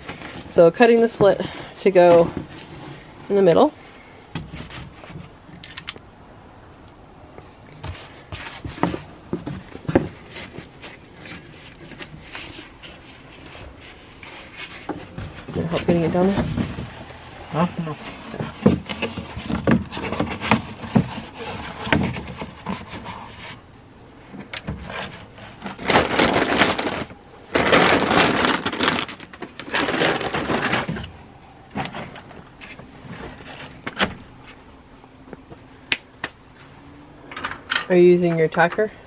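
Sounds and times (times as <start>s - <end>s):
cardboard rustling and scraping: 0.0s - 5.5s, 7.8s - 36.4s.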